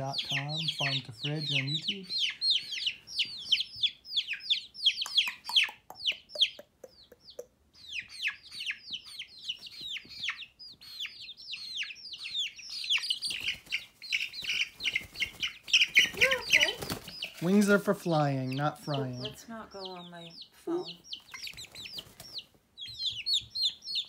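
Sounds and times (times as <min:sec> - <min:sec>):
baby chicks peeping: 0:00.0 - 0:24.0.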